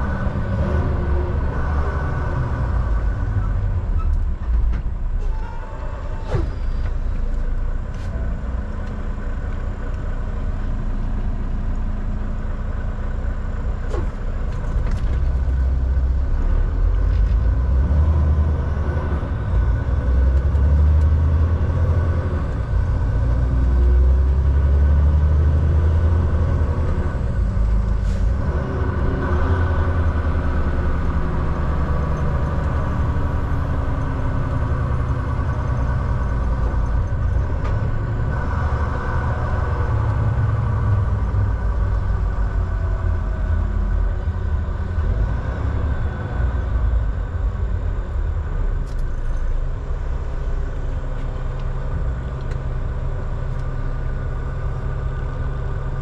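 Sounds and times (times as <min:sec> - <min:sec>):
truck diesel engine and road noise: 0:00.0 - 0:56.0.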